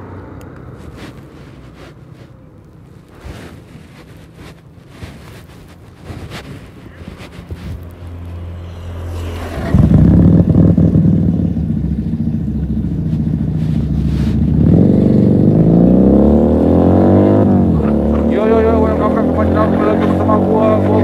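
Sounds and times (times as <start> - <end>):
motorcycle engine revving: 3.1 - 21.0.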